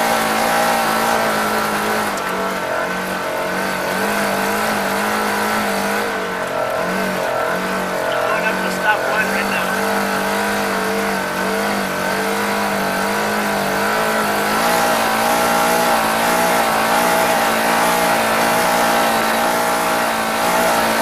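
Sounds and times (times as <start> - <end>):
off-road vehicle engine: 0.0 - 21.0
tyres on cinders: 0.0 - 21.0.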